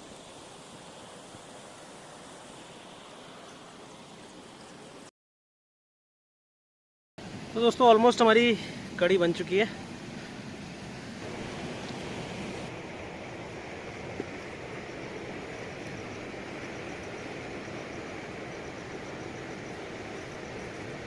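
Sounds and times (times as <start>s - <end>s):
river water rushing: 0.0s - 5.1s, 7.2s - 21.0s.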